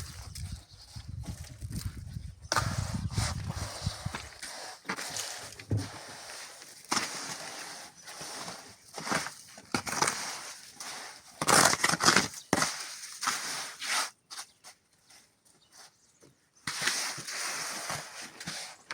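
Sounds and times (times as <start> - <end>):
hand tool scraping mortar: 0.0 - 14.6, 16.7 - 18.9.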